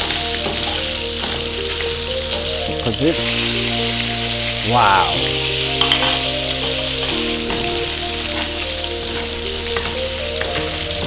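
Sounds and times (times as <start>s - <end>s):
steak sizzling in a pan: 0.0s - 11.0s.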